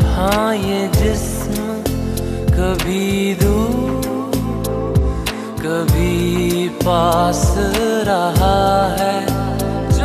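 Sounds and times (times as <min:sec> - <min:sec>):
dance remix of love song: 0:00.0 - 0:10.0.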